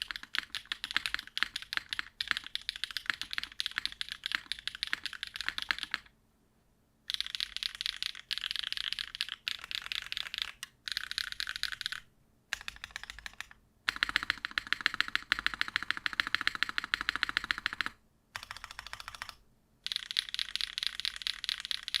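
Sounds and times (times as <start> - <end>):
mechanical keyboard typing: 0.0 - 6.1, 7.1 - 22.0.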